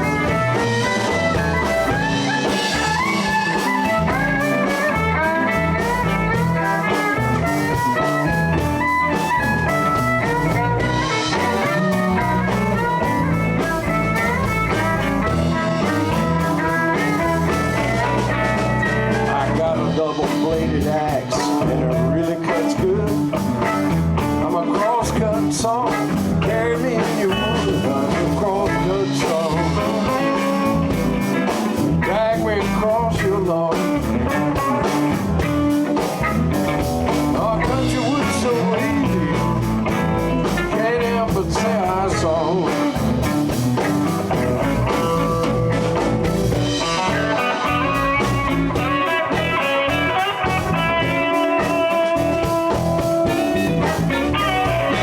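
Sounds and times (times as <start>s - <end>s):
blues band playing live: 0.0s - 55.0s
electric guitar lead line: 0.0s - 55.0s.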